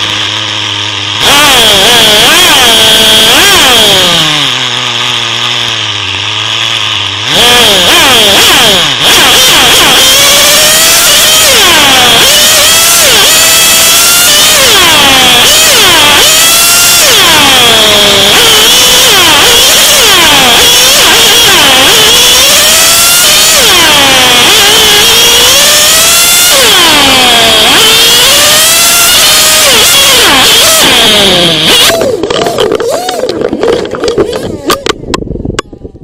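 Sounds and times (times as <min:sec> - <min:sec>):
racing engine at high revs: 0:00.0 - 0:35.1.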